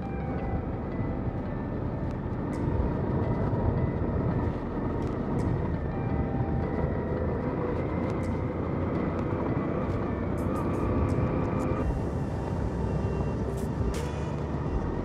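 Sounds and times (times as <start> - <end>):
tyre and road noise: 0.0 - 15.0.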